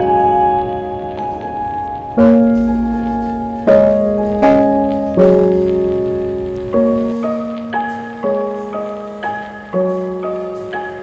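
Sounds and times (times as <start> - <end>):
soft keyboard chords: 0.0 - 11.0.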